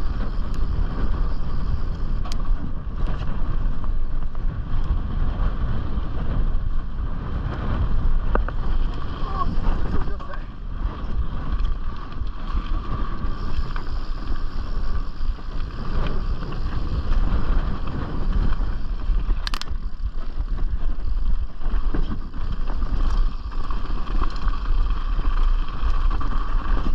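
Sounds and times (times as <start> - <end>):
mountain bike rolling on dirt: 0.0 - 26.9
wind rushing over microphone: 0.0 - 26.9.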